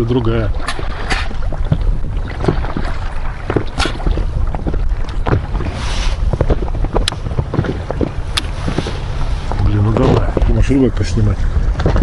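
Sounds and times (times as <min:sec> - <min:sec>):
waves lapping against inflatable boat: 0:00.0 - 0:12.0
wind rumble on microphone: 0:00.0 - 0:12.0.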